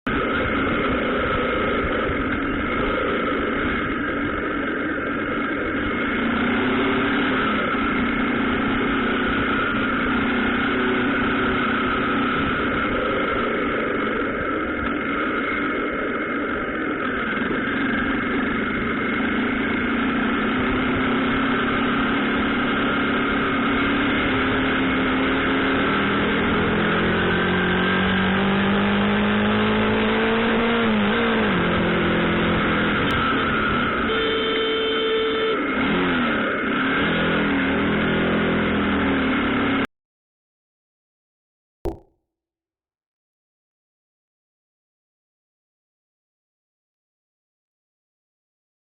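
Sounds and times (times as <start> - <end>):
motorcycle engine idling and revving: 0.1 - 39.9.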